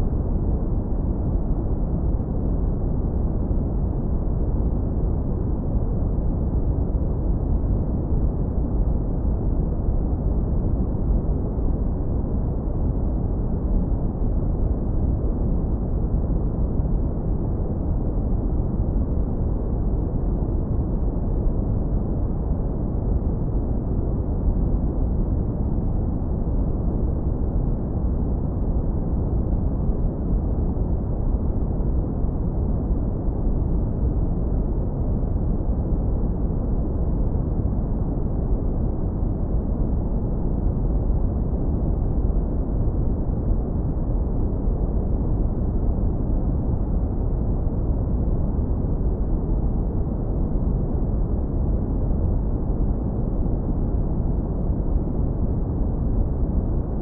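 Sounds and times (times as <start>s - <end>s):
deep brown noise rumble: 0.0s - 57.0s.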